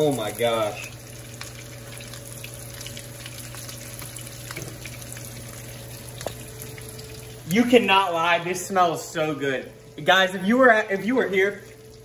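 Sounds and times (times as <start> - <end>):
fish frying in oil: 0.0 - 12.0
steady low hum: 0.0 - 12.0.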